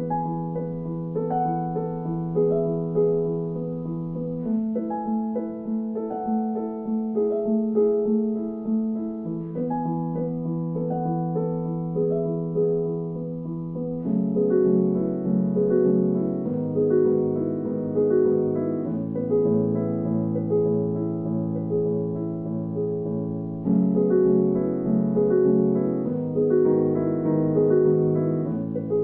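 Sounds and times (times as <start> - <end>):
soft piano music: 0.0 - 29.0.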